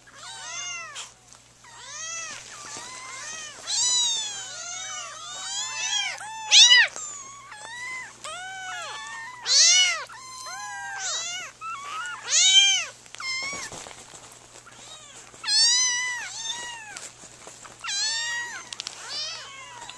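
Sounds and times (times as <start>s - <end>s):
kittens meowing: 0.0s - 19.9s.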